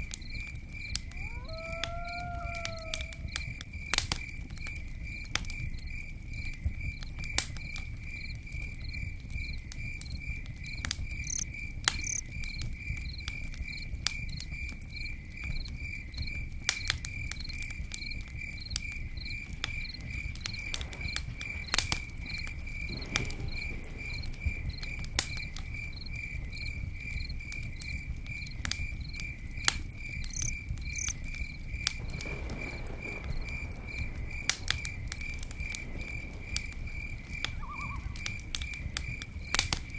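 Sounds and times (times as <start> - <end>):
campfire crackling and popping: 0.0 - 39.9
insect chirping: 0.0 - 39.9.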